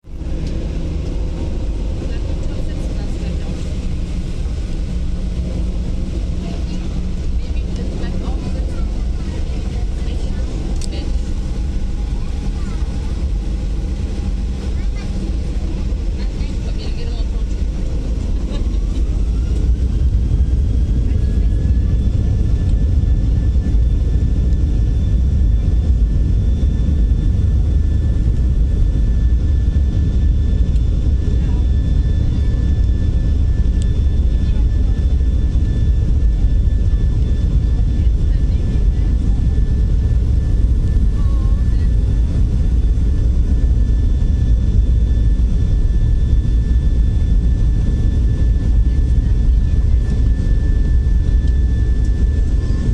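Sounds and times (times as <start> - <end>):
jet engines running: 0.0 - 52.9.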